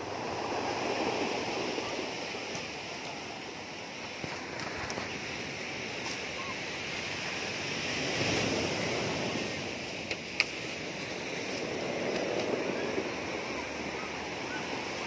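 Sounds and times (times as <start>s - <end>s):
surf washing up pebble beach: 0.0s - 15.0s.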